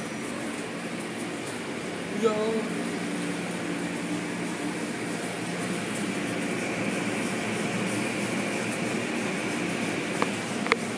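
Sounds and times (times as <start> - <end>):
brushes washing over car: 0.0 - 10.9
car wash water spray: 0.0 - 10.9.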